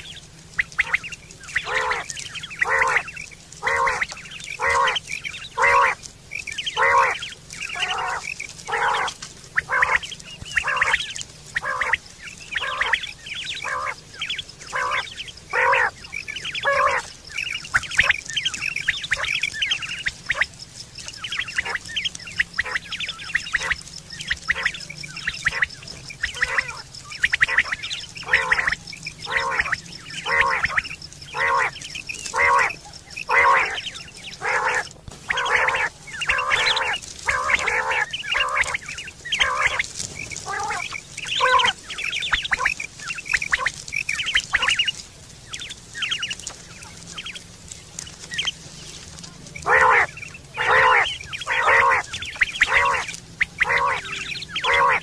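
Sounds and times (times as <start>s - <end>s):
quail calling: 0.0s - 55.0s.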